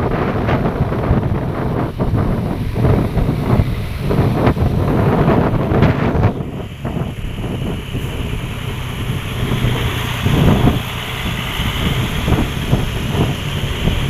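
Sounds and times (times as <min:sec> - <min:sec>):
vehicle engine running: 0:00.0 - 0:14.0
wind buffeting microphone: 0:00.0 - 0:14.0.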